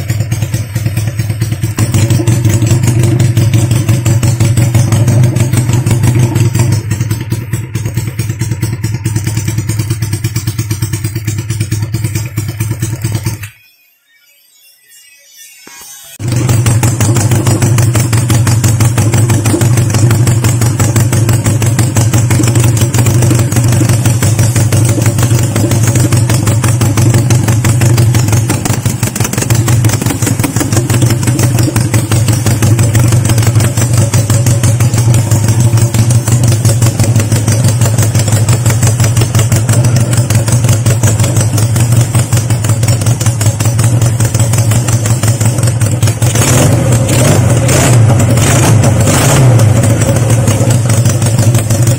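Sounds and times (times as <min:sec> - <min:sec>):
motorcycle engine idling: 0:00.0 - 0:13.6, 0:16.2 - 0:51.9.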